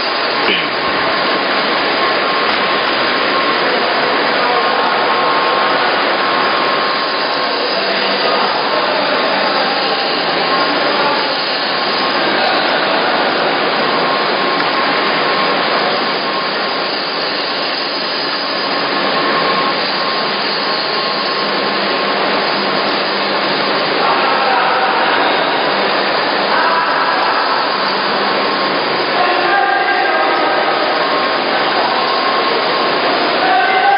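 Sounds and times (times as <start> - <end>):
machinery running: 0.0 - 33.9
thin steady whine: 0.0 - 33.9.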